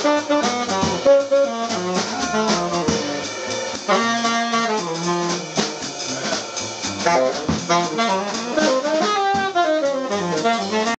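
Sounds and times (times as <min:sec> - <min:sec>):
saxophone playing quick notes: 0:00.0 - 0:06.4, 0:07.0 - 0:11.0
drum kit: 0:00.0 - 0:11.0.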